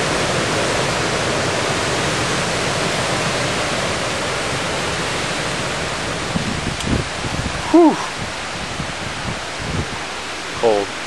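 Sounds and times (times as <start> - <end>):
storm wind and rain in trees: 0.0 - 11.0.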